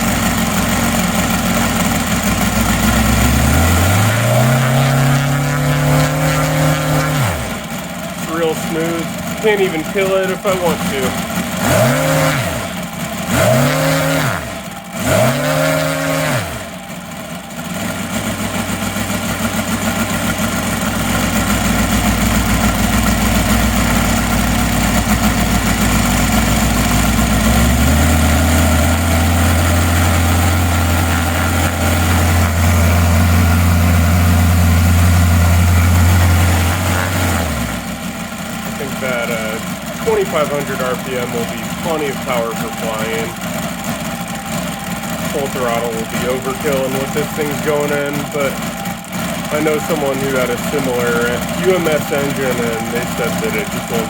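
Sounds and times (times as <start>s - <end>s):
radial engine running: 0.0s - 54.0s.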